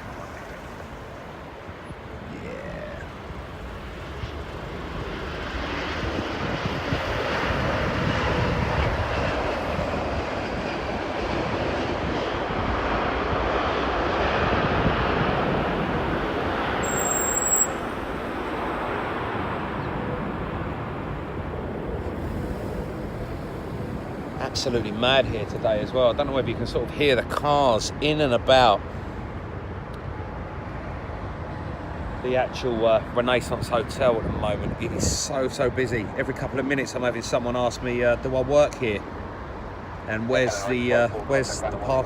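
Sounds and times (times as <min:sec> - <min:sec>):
jet engines rumbling: 0:00.0 - 0:42.0.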